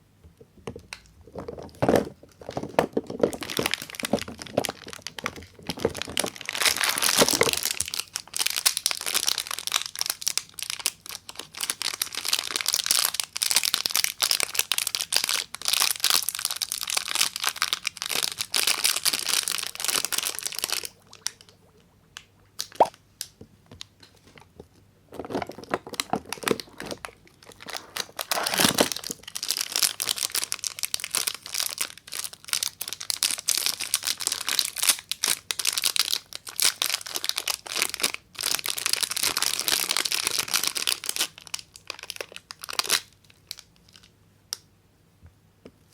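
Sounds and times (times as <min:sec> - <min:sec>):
soap wrapping crinkling: 0:00.8 - 0:44.1.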